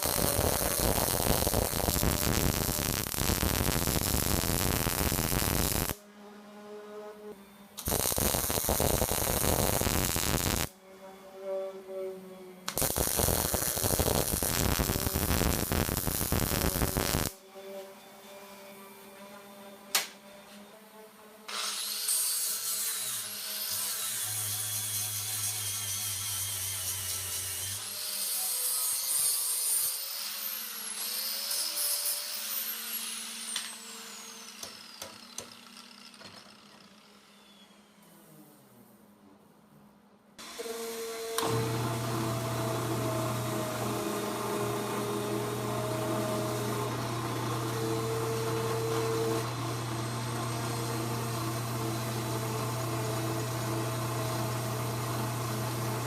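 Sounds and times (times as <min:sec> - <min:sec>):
power tool working metal: 0:00.0 - 0:06.0, 0:07.8 - 0:10.7, 0:12.7 - 0:17.4, 0:21.5 - 0:38.0, 0:40.4 - 0:56.0.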